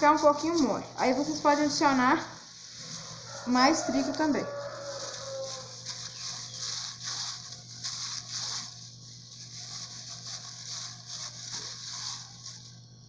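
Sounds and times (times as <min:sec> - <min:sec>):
gloved hands kneading dough: 0:00.0 - 0:13.0
steady low hum: 0:00.0 - 0:13.0.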